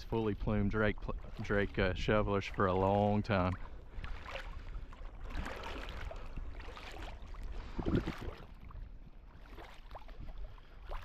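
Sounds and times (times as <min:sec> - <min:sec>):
water sloshing around kayak: 0:00.0 - 0:11.0.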